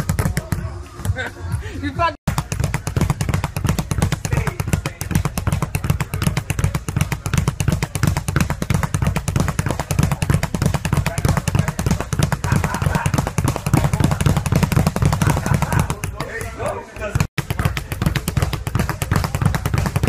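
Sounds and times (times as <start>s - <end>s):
speed bag thumping: 2.3s - 20.0s.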